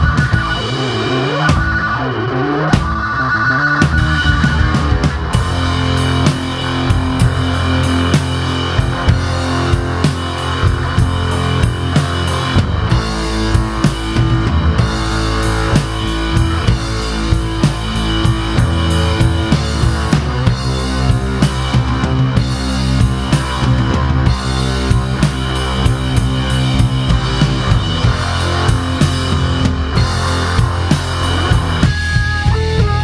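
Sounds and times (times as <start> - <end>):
drum kit beat: 0.0 - 33.0
guitar: 0.0 - 33.0
rock band playing: 0.0 - 33.0.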